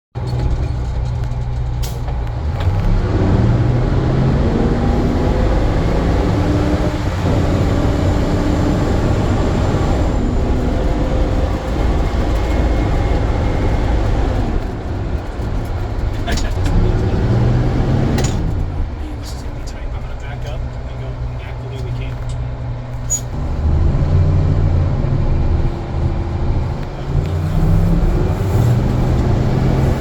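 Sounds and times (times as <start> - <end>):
diesel fire engine accelerating: 0.2 - 30.0.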